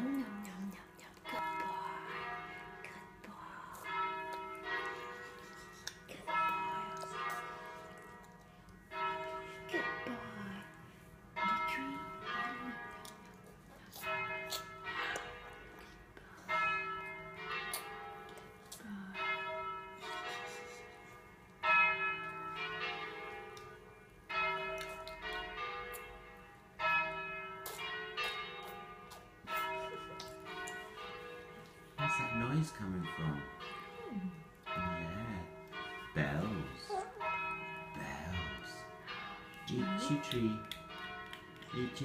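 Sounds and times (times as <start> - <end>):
bells ringing a peal: 3.8 - 13.2, 16.5 - 18.4, 19.2 - 42.0.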